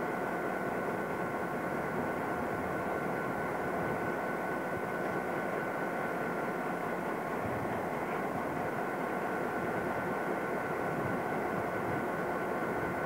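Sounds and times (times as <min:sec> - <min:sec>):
diesel engine rumble: 0:00.0 - 0:13.0.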